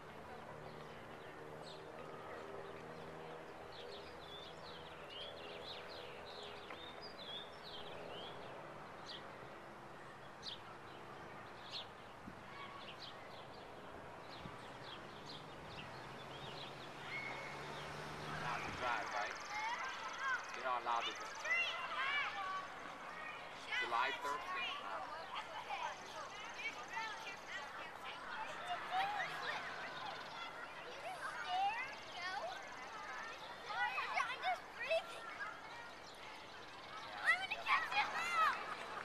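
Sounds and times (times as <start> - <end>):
outdoor background noise: 0.0 - 39.0
small birds chirping: 0.0 - 39.0.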